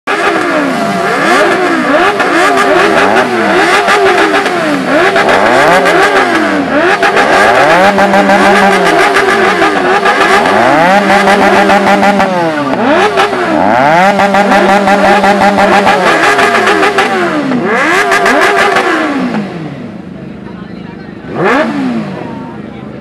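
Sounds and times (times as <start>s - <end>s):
motorcycle engine revving: 0.1s - 20.4s, 21.2s - 23.0s.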